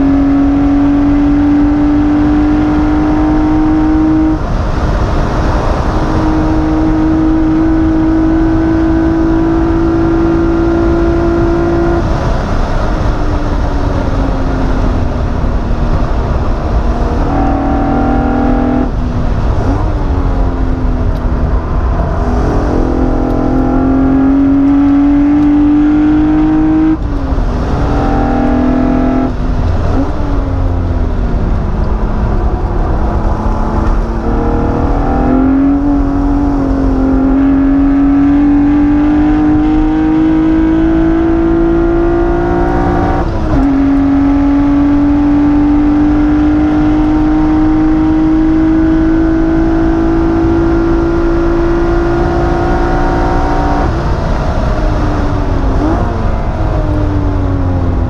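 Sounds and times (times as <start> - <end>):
car engine accelerating: 0.0 - 58.0
road and wind noise: 0.0 - 58.0.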